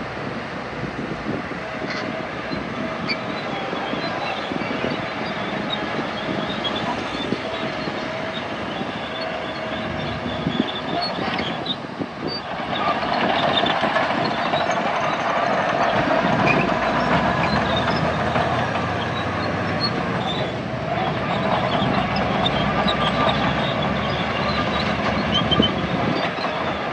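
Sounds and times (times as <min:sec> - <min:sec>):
bulldozer engine clanking: 0:00.0 - 0:26.9.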